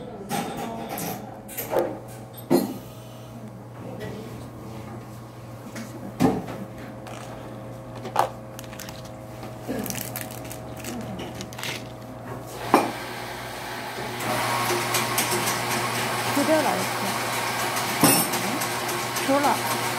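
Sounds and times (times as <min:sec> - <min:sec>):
low machine hum: 0:00.0 - 0:19.9.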